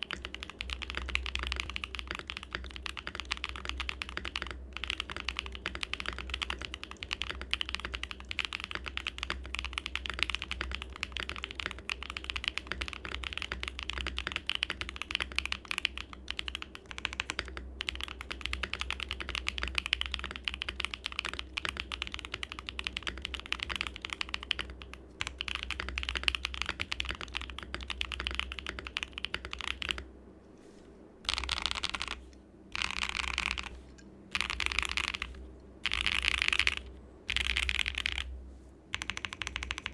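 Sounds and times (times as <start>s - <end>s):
mechanical keyboard typing: 0.0s - 30.0s, 31.2s - 38.3s, 38.9s - 39.9s.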